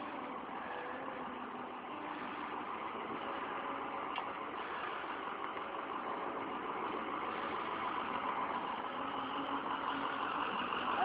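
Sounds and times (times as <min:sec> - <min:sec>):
pickup truck engine running: 0:00.0 - 0:11.0.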